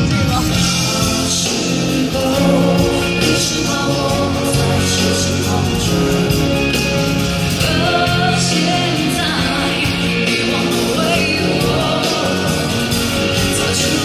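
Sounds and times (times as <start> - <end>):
live pop band with strings: 0.0 - 14.0
person singing: 0.0 - 14.0.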